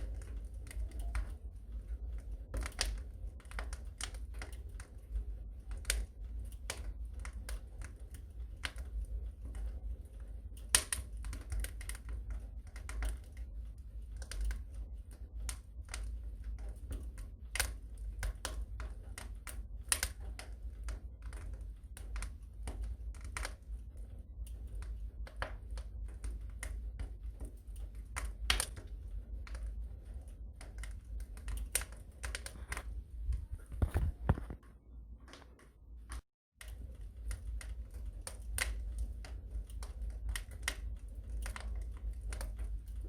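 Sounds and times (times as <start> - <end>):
low rumble of flames: 0.0 - 43.0
wood fire crackling and popping: 0.0 - 43.0.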